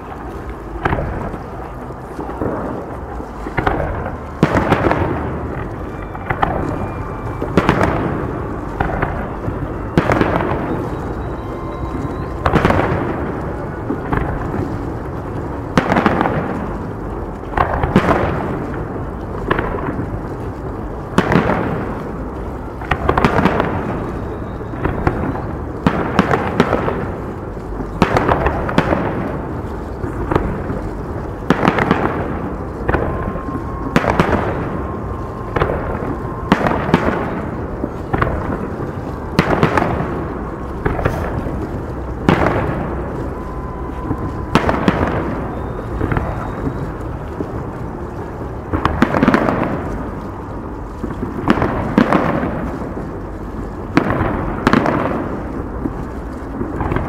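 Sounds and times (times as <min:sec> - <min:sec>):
fireworks bursting with echo: 0:00.0 - 0:57.0.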